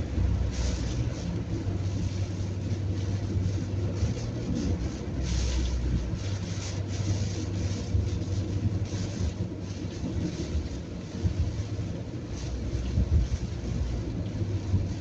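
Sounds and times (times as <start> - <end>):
rain hiss and tyre spray: 0.0 - 15.0
road and engine rumble: 0.0 - 15.0.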